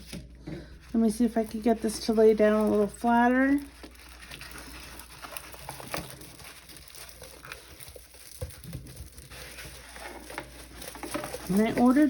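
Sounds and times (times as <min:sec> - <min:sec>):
canvas rustling: 0:00.8 - 0:12.0.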